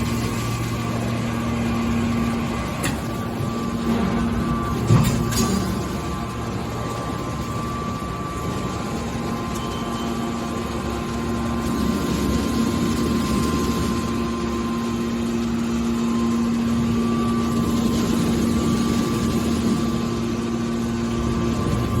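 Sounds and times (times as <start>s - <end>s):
baler motor and pump hum: 0.0s - 22.0s.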